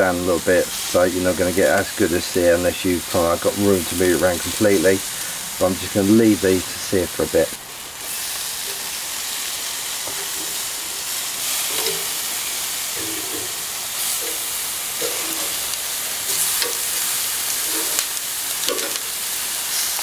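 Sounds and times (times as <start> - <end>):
steaks sizzling on grill: 0.0 - 20.0.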